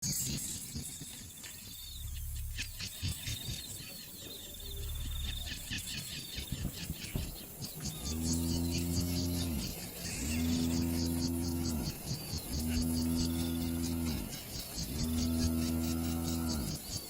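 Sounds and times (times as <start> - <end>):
wildlife trills and chirps: 0.0 - 17.0.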